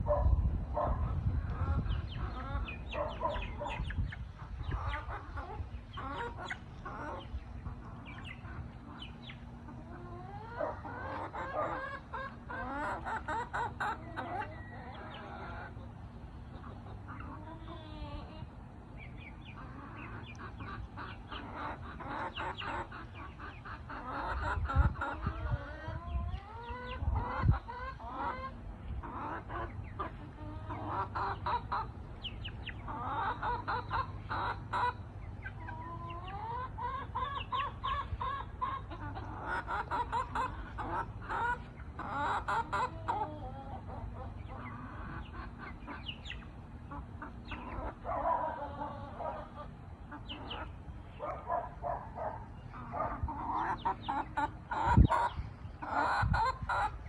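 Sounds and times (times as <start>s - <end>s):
hens clucking and calling: 0.0s - 57.0s.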